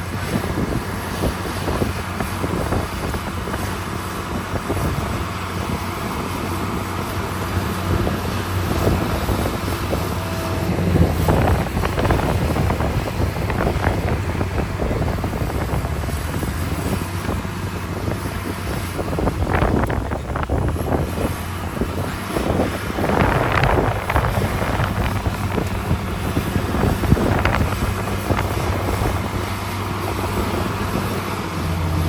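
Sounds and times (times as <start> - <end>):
diesel machinery running: 0.0 - 32.0.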